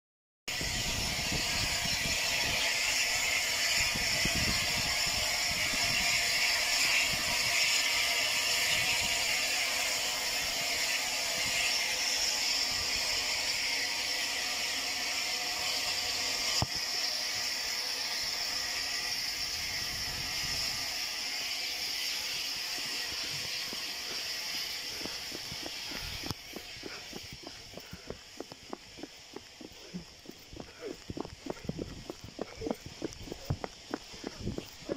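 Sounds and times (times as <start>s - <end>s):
steam hissing: 0.5s - 34.9s.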